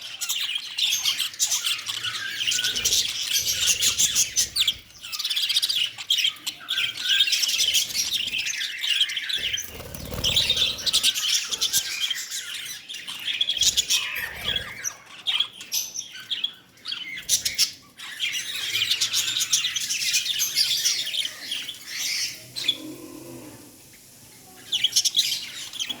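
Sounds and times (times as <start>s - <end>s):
lovebirds chirping and squawking: 0.0s - 26.0s.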